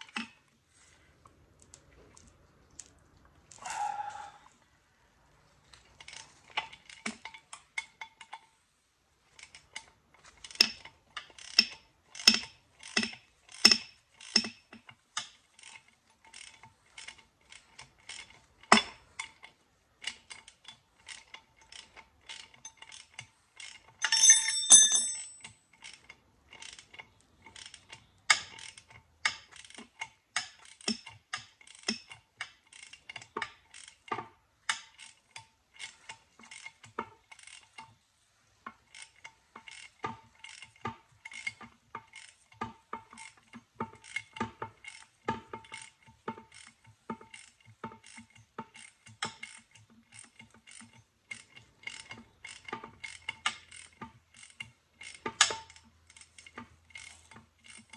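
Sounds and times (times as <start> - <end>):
ratchet wrench clicking: 9.4 - 37.9, 38.9 - 57.9.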